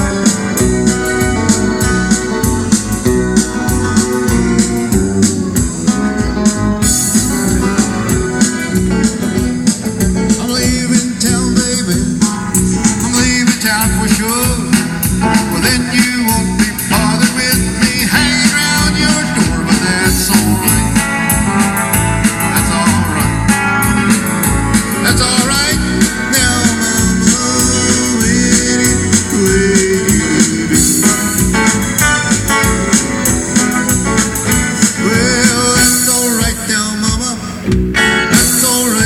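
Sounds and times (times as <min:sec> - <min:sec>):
live blues rock band: 0:00.0 - 0:39.0.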